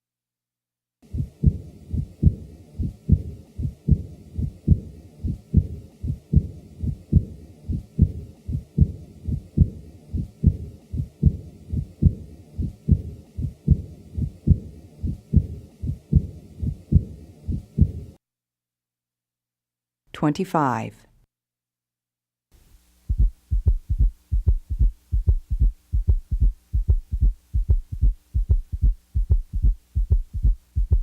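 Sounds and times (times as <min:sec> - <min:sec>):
heartbeat through stethoscope: 0:01.0 - 0:18.2, 0:23.0 - 0:31.0.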